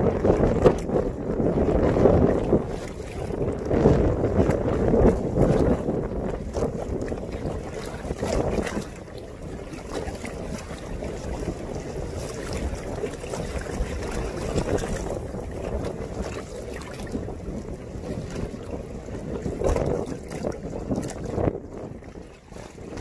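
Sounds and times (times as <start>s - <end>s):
water splashing against kayak: 0.0s - 23.0s
wind buffeting microphone: 0.0s - 23.0s.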